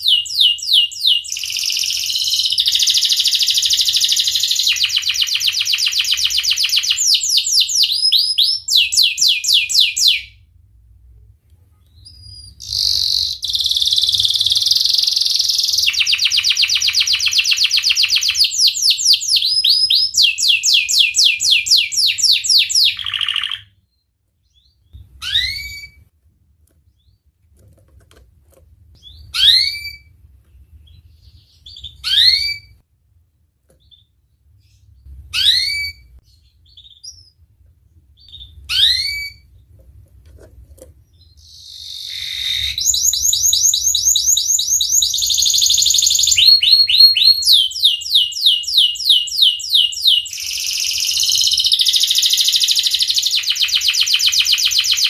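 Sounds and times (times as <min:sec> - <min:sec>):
canary singing trills: 0:00.0 - 0:10.4, 0:11.9 - 0:26.0, 0:29.0 - 0:32.8, 0:33.8 - 0:37.4, 0:38.2 - 0:39.7, 0:41.1 - 0:55.0.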